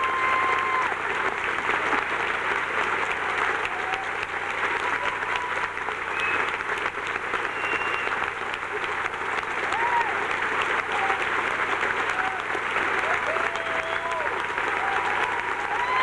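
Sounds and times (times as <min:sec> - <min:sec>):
audience applauding: 0:00.0 - 0:16.0
audience cheering: 0:00.0 - 0:16.0.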